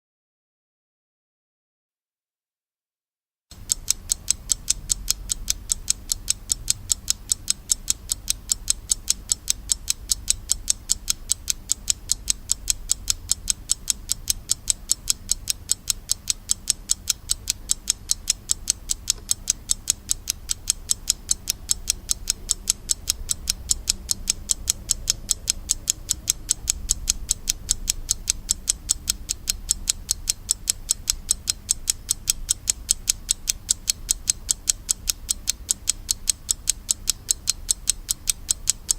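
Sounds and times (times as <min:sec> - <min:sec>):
alarm clock ticking: 0:03.5 - 0:38.9.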